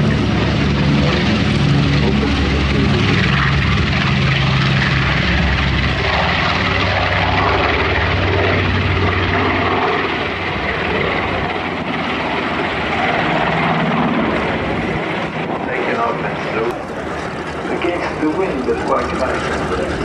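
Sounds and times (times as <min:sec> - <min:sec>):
propeller aircraft engines droning: 0:00.0 - 0:20.0.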